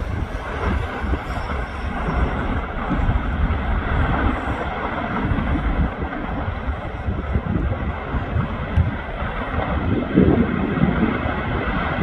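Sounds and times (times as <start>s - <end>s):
volcanic vent rumbling: 0.0s - 12.0s.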